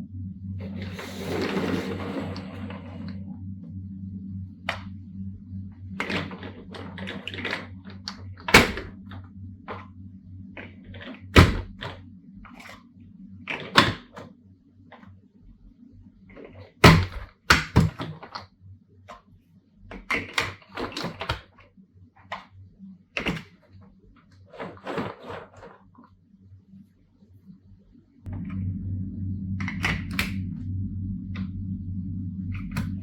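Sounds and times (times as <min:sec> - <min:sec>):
low steady hum: 0:00.0 - 0:25.6, 0:26.2 - 0:33.0.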